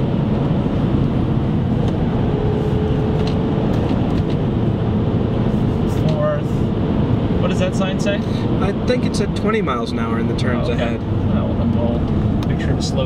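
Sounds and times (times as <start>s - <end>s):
car engine running under load: 0.0s - 13.0s
road and tyre noise: 0.0s - 13.0s.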